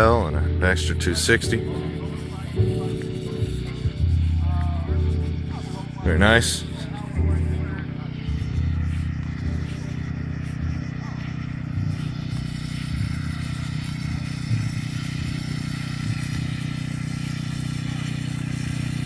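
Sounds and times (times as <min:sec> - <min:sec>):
model airplane engine running: 0:00.0 - 0:19.0.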